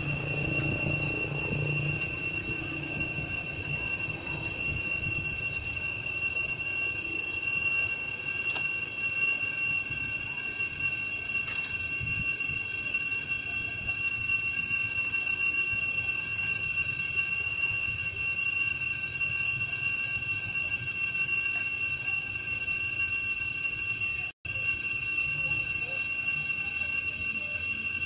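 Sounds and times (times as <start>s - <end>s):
insect chorus whine: 0.0s - 28.0s.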